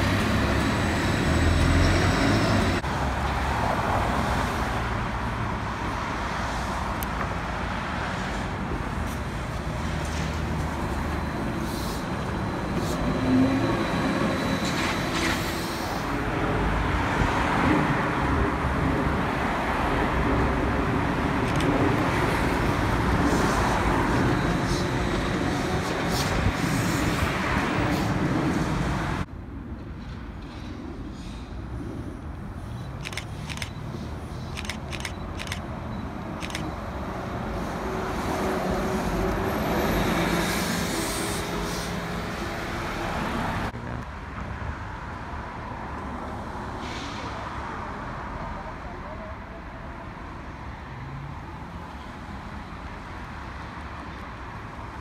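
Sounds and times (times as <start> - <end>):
electric trolleybus running: 0.0 - 46.4.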